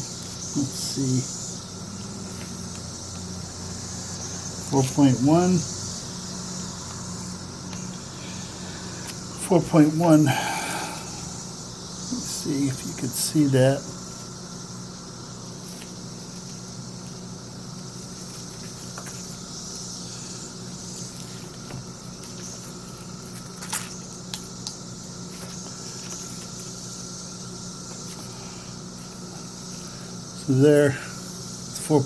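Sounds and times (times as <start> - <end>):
high hiss: 0.0 - 32.0
steady background hum: 0.0 - 32.0.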